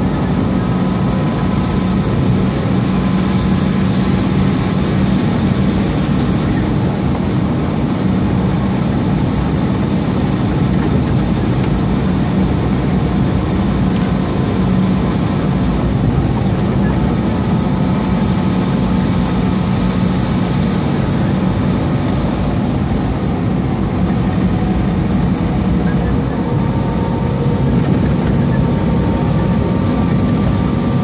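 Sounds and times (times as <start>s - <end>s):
road noise: 0.0s - 31.0s
truck diesel engine drone: 0.0s - 31.0s.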